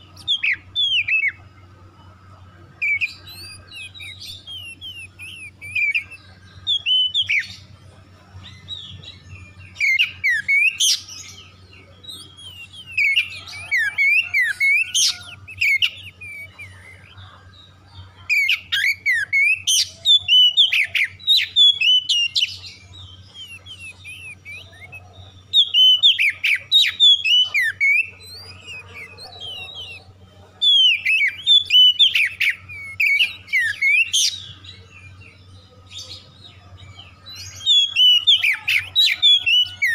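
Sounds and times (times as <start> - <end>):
bird singing whistled phrases: 0.0 - 1.4, 2.8 - 7.7, 8.4 - 17.4, 18.3 - 39.9.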